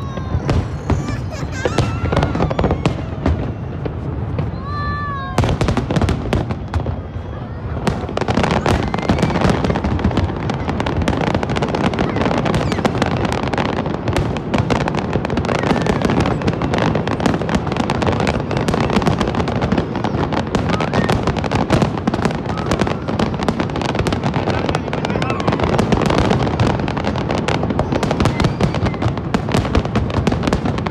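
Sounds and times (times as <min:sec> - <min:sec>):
fireworks bursting and crackling: 0:00.0 - 0:30.9.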